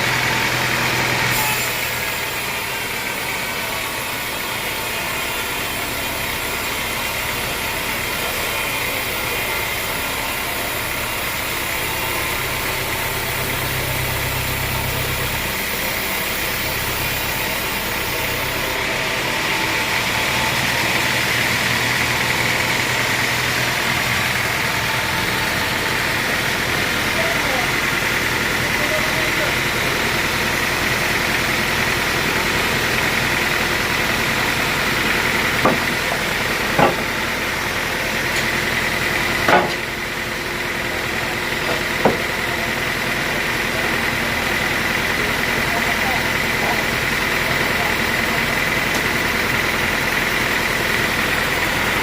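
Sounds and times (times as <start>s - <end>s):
band sawmill engine running: 0.0s - 52.0s.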